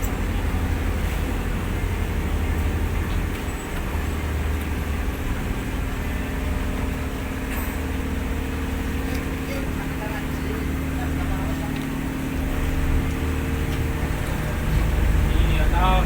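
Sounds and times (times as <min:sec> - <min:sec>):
engine droning steadily: 0:00.0 - 0:16.0.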